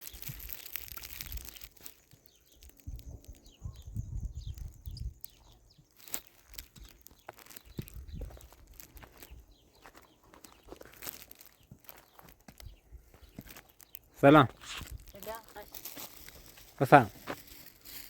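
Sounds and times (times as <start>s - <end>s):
crunching and rustling: 0.0s - 18.0s
small birds chirping: 0.0s - 18.0s.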